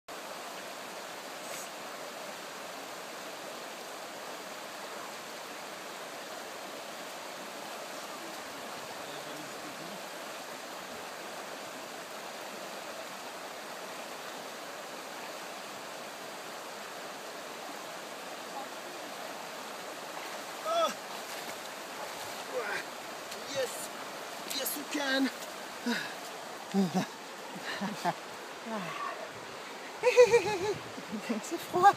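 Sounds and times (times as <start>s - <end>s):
river flowing over stones: 0.1s - 31.9s.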